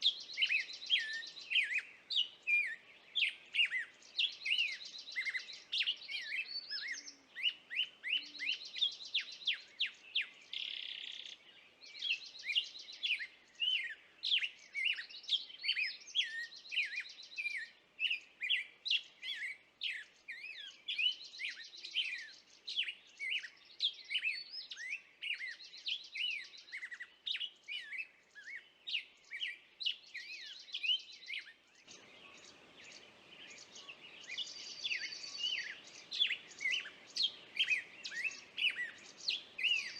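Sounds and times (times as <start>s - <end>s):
low background hiss: 0.0s - 24.3s, 27.1s - 39.9s
small songbirds singing: 0.0s - 39.9s.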